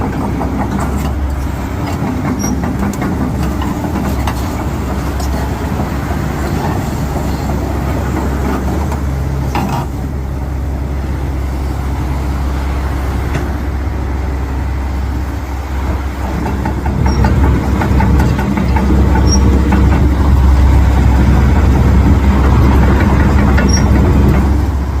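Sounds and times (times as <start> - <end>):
excavator diesel engine humming: 0.0 - 25.0.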